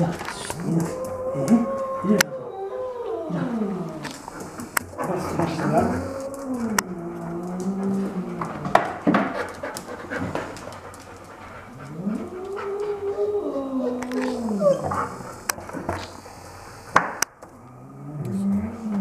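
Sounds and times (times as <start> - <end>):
animal moaning: 0.0 - 9.1, 11.4 - 16.2, 17.6 - 19.0.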